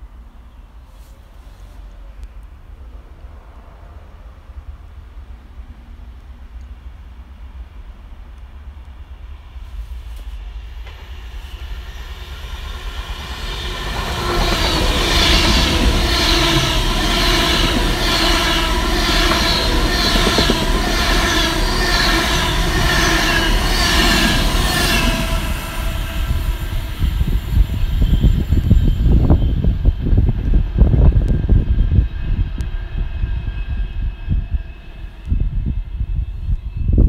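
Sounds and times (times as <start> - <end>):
train pulsing whine: 0.0 - 37.0.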